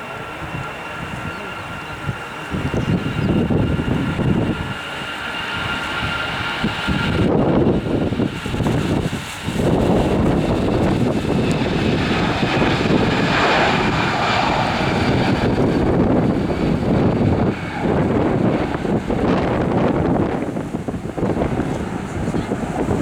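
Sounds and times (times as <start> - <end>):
jet engines roaring at takeoff: 0.0 - 23.0.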